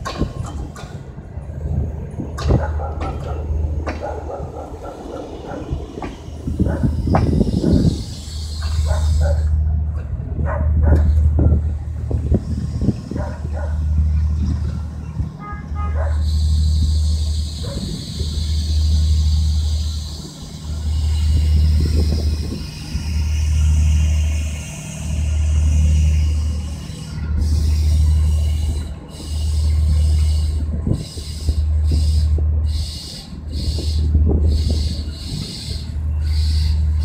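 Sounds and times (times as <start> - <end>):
diesel train engine idling: 0.0 - 37.0.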